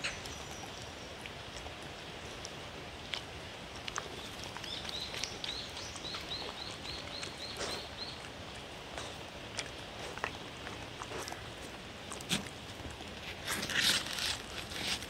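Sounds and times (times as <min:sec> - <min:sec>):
dog chewing and licking plate: 0:00.0 - 0:15.0
steady outdoor hiss: 0:00.0 - 0:15.0.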